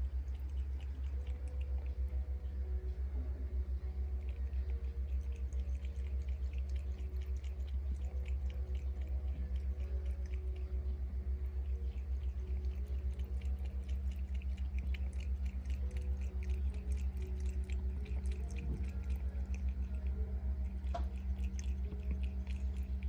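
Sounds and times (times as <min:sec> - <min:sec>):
cat lapping water: 0:00.0 - 0:02.6, 0:04.0 - 0:23.0
low steady hum: 0:00.0 - 0:23.0.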